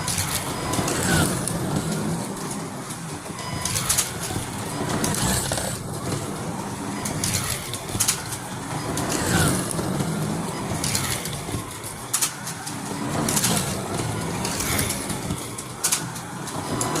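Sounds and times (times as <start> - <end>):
cars clicking and rattling on track: 0.0 - 17.0
slot car motors whining: 0.0 - 17.0.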